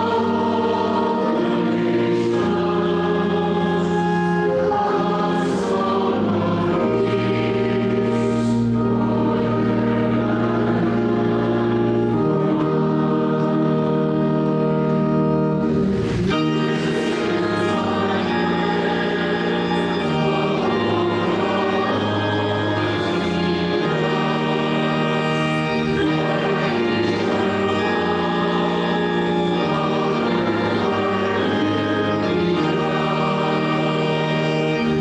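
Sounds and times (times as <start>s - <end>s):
choir singing a hymn: 0.0s - 35.0s
organ chords: 0.0s - 35.0s.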